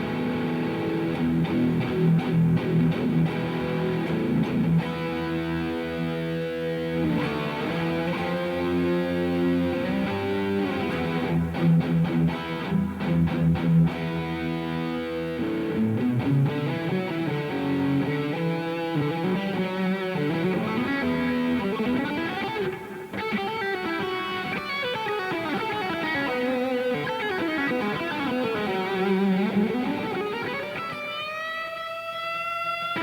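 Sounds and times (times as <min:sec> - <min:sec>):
overdriven electric guitar lead: 0:00.0 - 0:33.0.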